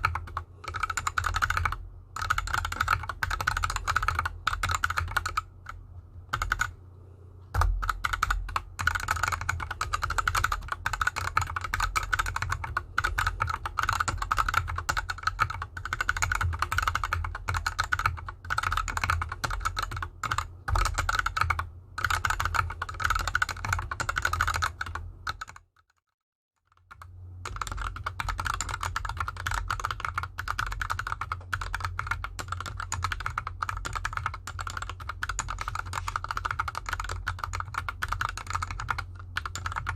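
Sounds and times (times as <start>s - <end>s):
mechanical keyboard typing: 0.0s - 6.8s, 7.5s - 39.9s.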